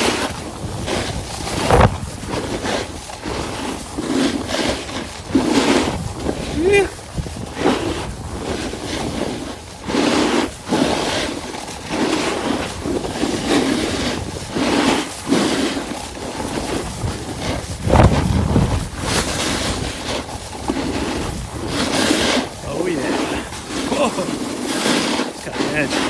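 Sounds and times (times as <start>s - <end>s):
snowboard edge scraping icy snow: 0.0s - 26.0s
wind buffeting microphone: 0.0s - 26.0s.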